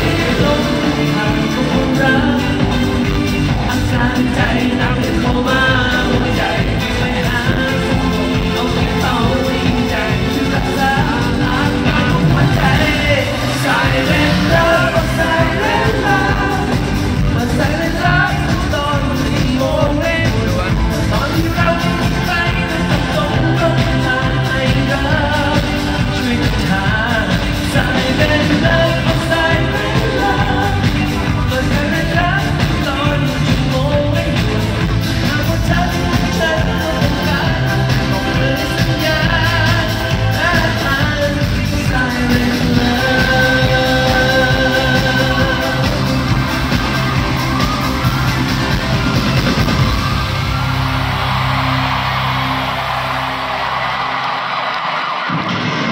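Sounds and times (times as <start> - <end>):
man singing: 0.0 - 49.7
live pop-rock band: 0.0 - 55.9.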